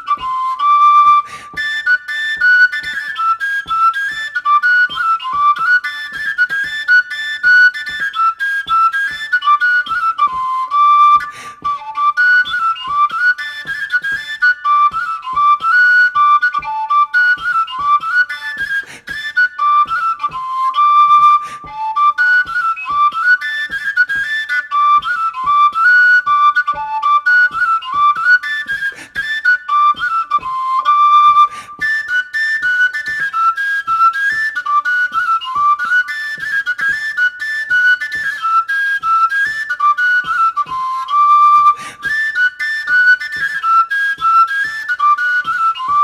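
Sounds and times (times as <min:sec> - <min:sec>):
overtone flute melody: 0:00.0 - 0:46.0.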